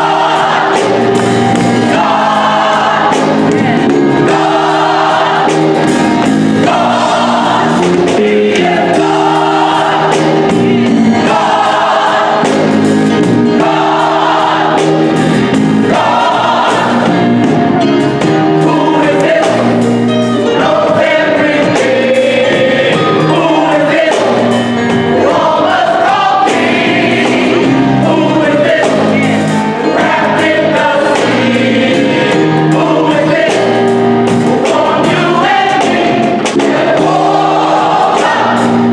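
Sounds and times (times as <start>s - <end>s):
gospel choir singing: 0.0s - 38.9s.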